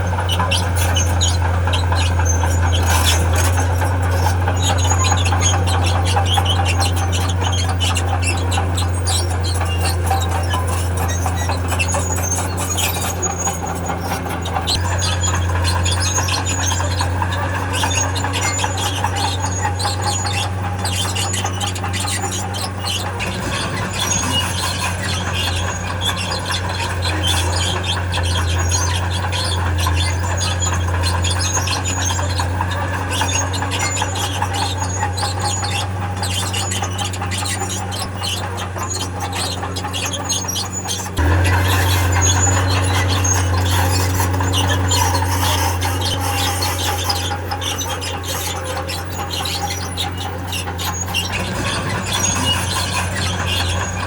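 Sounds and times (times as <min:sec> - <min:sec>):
diesel engine running: 0:00.0 - 0:54.0
steel tracks squealing: 0:00.0 - 0:54.0.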